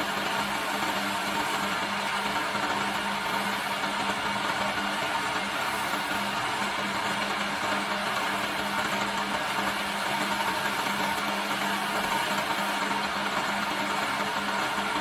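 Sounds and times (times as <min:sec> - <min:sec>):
lathe motor humming: 0:00.0 - 0:15.0
tool hissing on spinning wood: 0:00.0 - 0:15.0.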